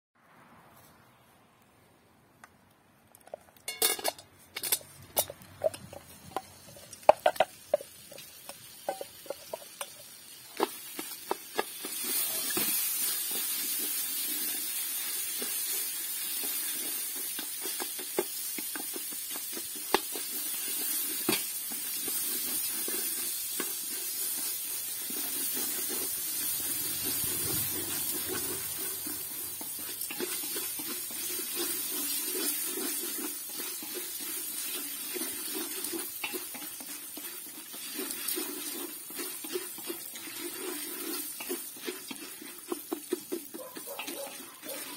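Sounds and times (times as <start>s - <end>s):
popcorn kernels rattling in pot: 3.7s - 44.9s
steady sizzle: 4.8s - 44.9s.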